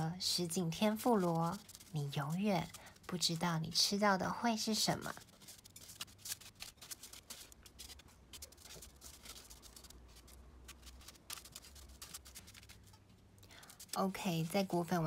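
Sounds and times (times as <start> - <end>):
breadcrumbs crackling and rustling: 0.1 - 13.0, 13.6 - 15.0
aluminium foil rustling: 0.2 - 15.0.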